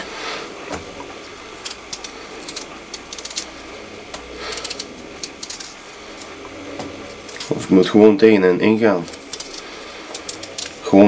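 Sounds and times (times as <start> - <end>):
blade scraping potato skin: 0.1 - 8.0, 8.7 - 11.0.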